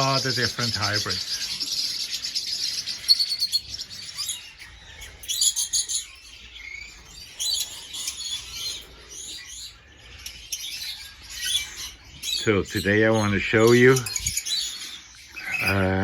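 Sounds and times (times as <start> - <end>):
lovebirds chirping: 0.0 - 16.0.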